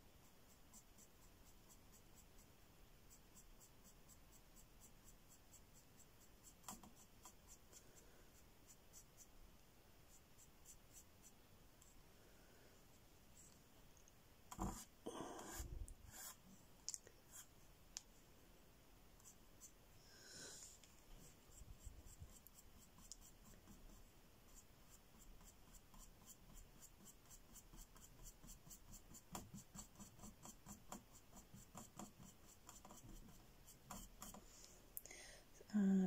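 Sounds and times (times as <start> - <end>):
paintbrush strokes on panel: 0.2 - 13.7, 14.5 - 17.7, 19.2 - 34.7.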